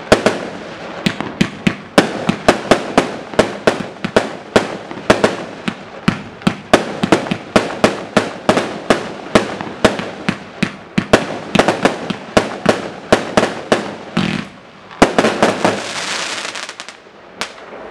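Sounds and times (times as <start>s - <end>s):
firework shots banging: 0.0s - 17.7s
firework bursts: 0.0s - 17.9s
rapid firework pops: 0.1s - 15.9s.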